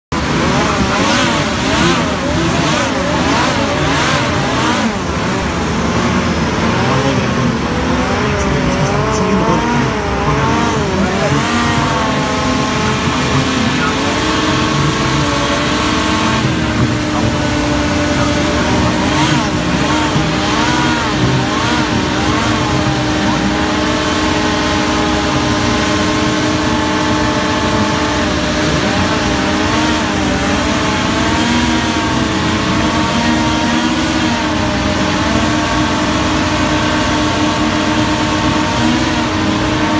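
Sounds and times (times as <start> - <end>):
hovercraft engines running: 0.1 - 39.9.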